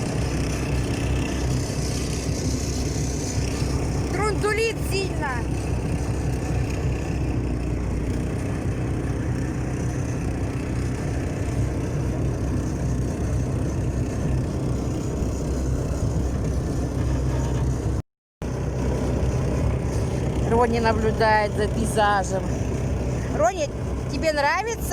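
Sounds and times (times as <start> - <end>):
road noise: 0.0 - 24.9
small petrol engine droning: 0.0 - 24.9.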